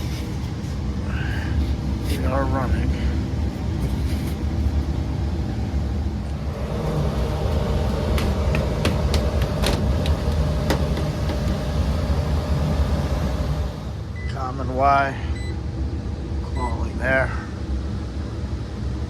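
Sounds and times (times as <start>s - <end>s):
hvac mechanical hum: 0.0s - 19.0s.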